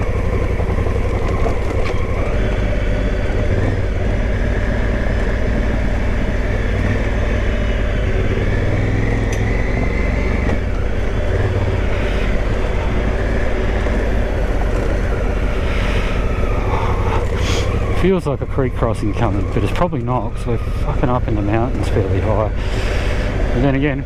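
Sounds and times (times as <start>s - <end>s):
motorcycle engine running: 0.0s - 24.0s
tyre and trail noise: 0.0s - 24.0s.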